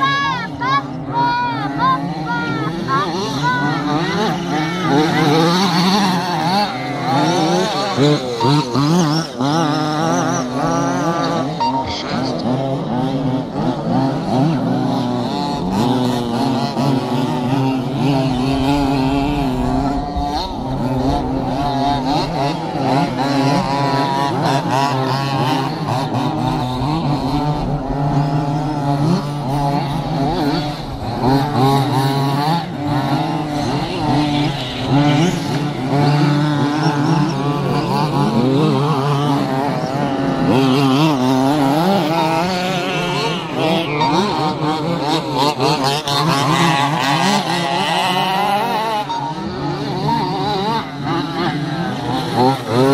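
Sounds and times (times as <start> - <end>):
small two-stroke engines revving: 0.0 - 52.9.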